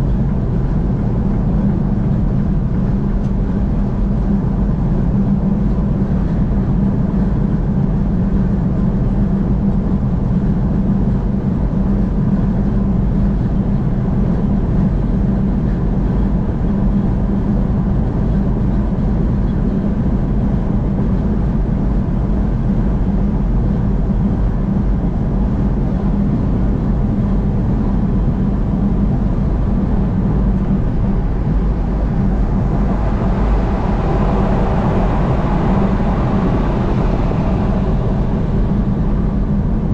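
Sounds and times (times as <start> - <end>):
car driving on freeway: 0.0 - 39.9.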